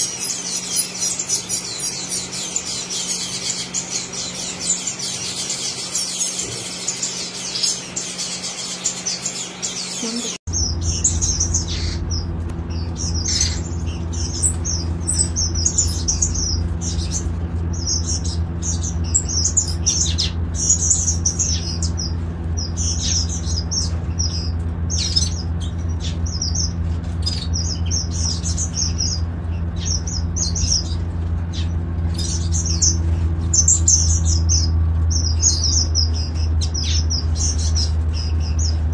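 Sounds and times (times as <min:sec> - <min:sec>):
finches chirping: 0:00.0 - 0:38.9
steady low hum: 0:00.0 - 0:38.9.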